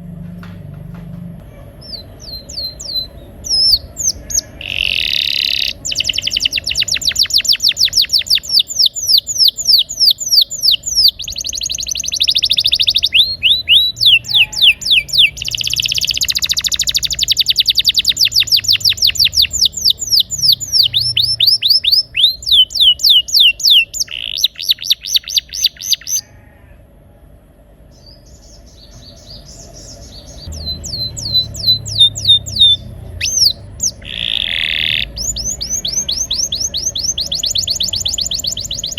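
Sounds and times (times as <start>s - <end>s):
canary singing trills: 1.5s - 26.3s, 27.9s - 38.9s.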